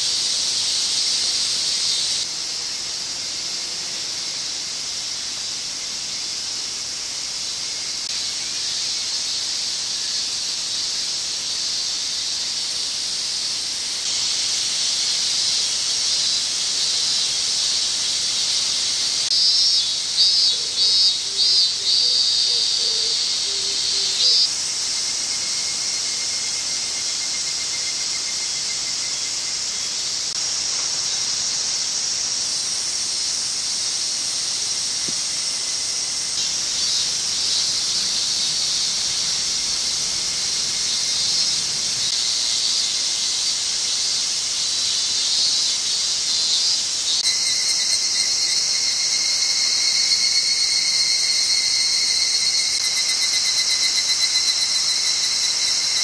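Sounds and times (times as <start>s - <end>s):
cicadas shrilling: 0.0s - 56.0s
loud pulsing insect call: 0.0s - 56.0s.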